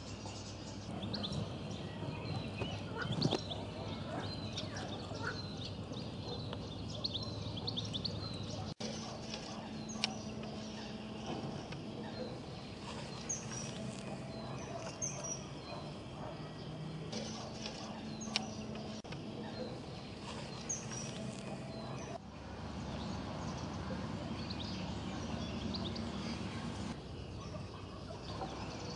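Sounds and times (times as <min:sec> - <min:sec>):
low background hum: 0:00.0 - 0:28.9
small birds chirping: 0:00.0 - 0:28.9.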